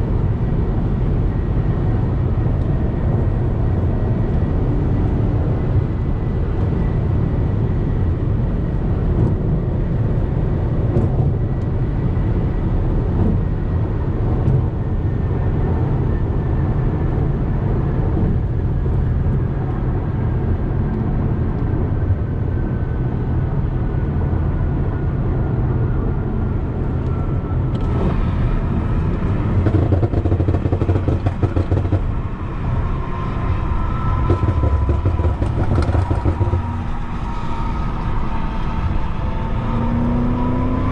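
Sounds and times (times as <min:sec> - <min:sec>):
car engine and exhaust: 0:00.0 - 0:40.9
deep rumble: 0:00.0 - 0:40.9.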